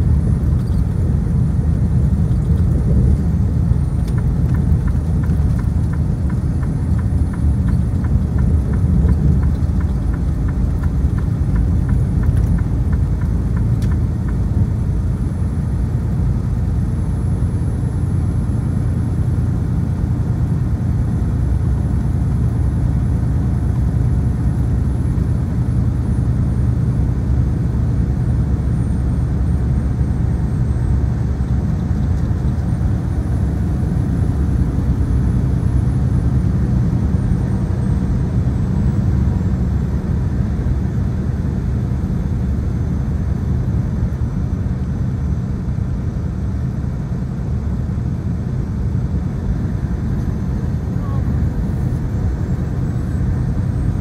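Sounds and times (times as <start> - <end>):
road and tyre noise: 0.0 - 54.0
truck engine drone: 0.0 - 54.0.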